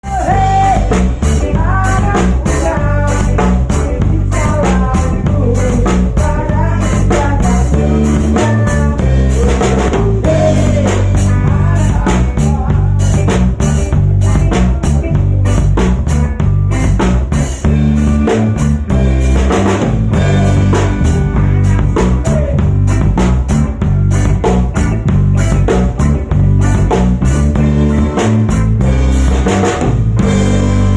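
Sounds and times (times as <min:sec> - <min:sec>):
bass guitar: 0:00.0 - 0:30.9
drum kit with cymbal beat: 0:00.0 - 0:30.9
electric guitar lead melody: 0:00.0 - 0:30.9.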